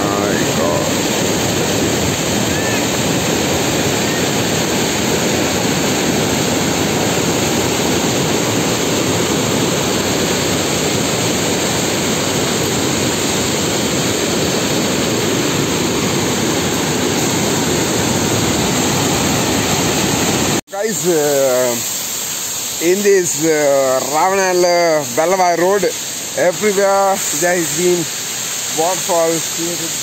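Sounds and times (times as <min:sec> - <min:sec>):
rush of falling water: 0:00.0 - 0:30.0.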